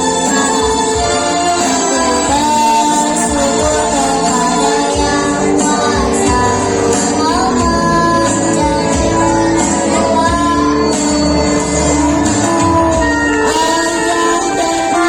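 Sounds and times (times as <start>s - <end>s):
child singing: 0.0s - 15.0s
instrumental accompaniment: 0.0s - 15.0s.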